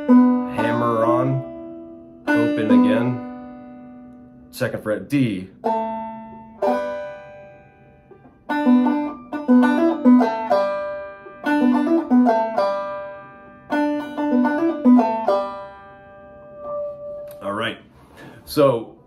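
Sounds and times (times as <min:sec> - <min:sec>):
banjo plucked notes: 0:00.0 - 0:17.4.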